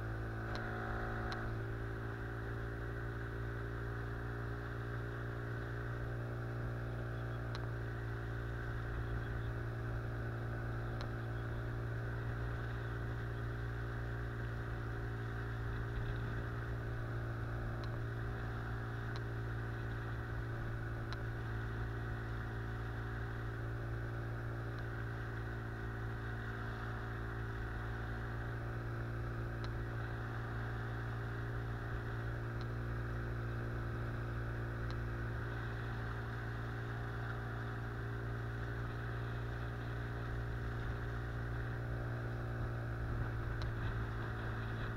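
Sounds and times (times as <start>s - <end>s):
outboard motor running: 0.0s - 44.9s.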